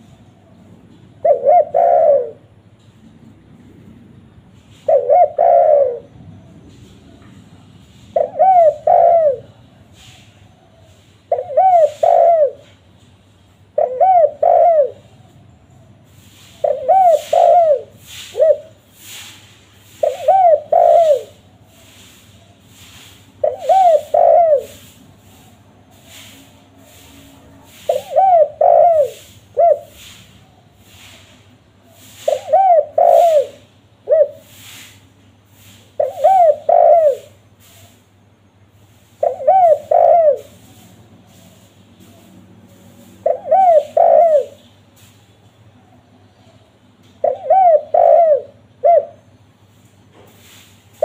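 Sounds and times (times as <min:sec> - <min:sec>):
dove cooing: 0:00.0 - 0:02.5, 0:04.6 - 0:07.3, 0:07.9 - 0:12.8, 0:13.7 - 0:35.0, 0:35.6 - 0:38.0, 0:39.2 - 0:44.8, 0:47.2 - 0:49.2.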